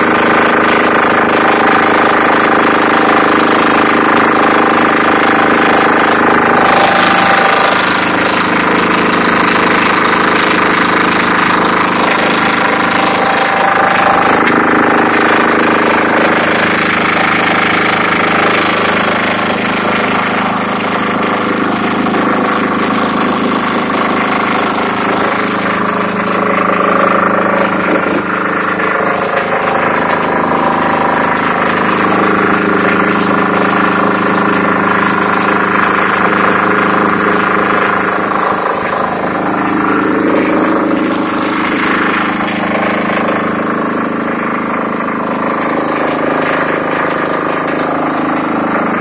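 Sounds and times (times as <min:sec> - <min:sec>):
diesel generator running: 0:00.0 - 0:49.0.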